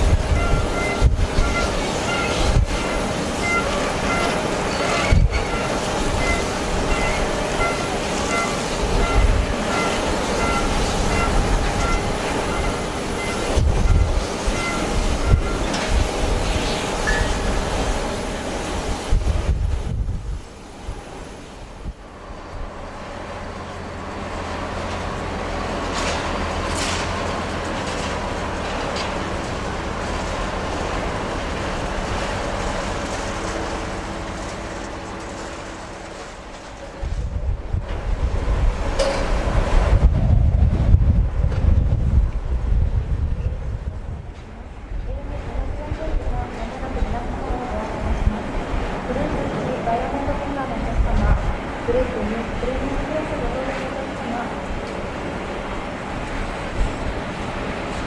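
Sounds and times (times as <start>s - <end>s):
strong wind gusting on microphone: 0.0s - 28.5s, 36.7s - 58.0s
jet engines running: 0.0s - 58.0s.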